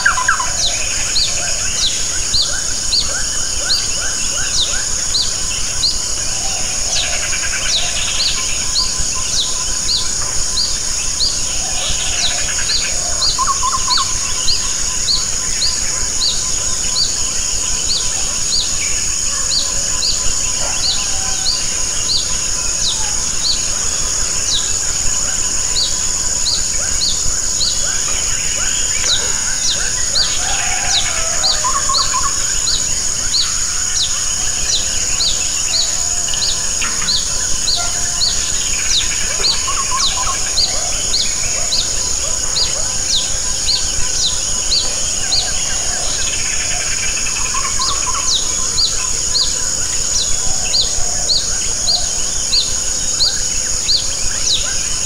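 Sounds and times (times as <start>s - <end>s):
high insect whine: 0.0s - 55.0s.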